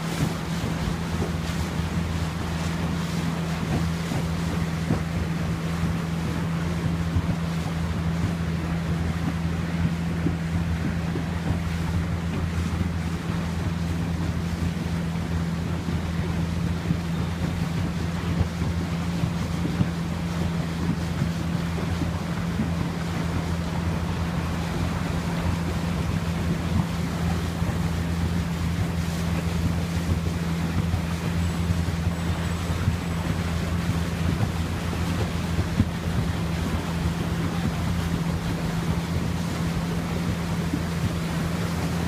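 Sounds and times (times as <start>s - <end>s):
small boat motor running: 0.0s - 42.0s
water rushing along hull: 0.0s - 42.0s
wind buffeting microphone: 0.0s - 42.0s.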